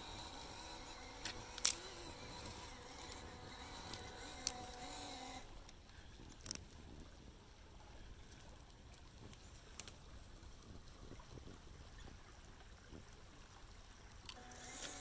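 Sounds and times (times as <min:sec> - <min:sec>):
creek water running over rock: 0:00.0 - 0:15.0.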